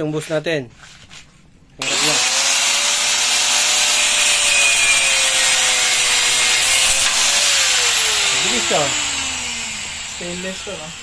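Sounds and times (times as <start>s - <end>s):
angle grinder cutting metal: 1.8s - 11.0s.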